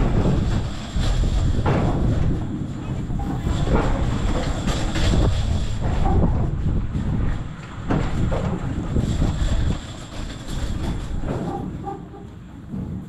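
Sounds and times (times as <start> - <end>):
spinning ride rumbling and rattling: 0.0 - 13.0
wind buffeting microphone: 0.0 - 13.0.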